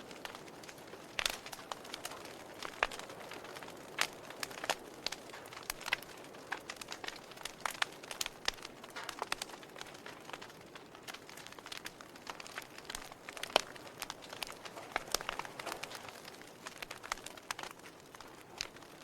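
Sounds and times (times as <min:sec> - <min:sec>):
wood fire crackling: 0:00.0 - 0:19.0
sharp pops and snaps: 0:00.1 - 0:19.0.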